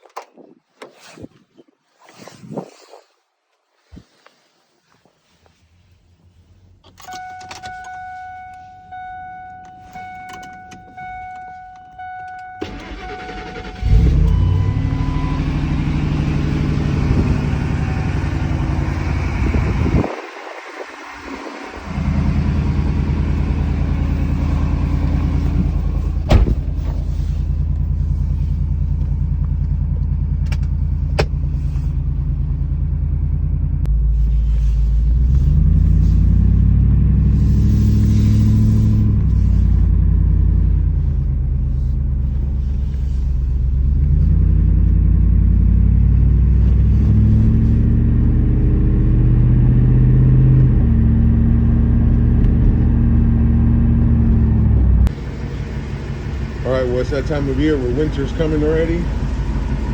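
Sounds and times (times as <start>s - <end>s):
truck engine drone: 6.6s - 59.9s.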